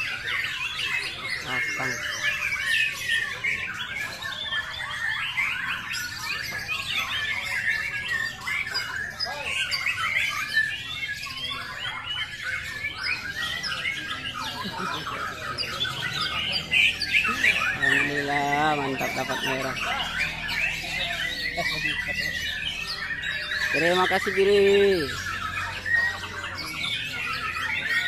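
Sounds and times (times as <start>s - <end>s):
many songbirds singing: 0.0s - 28.0s.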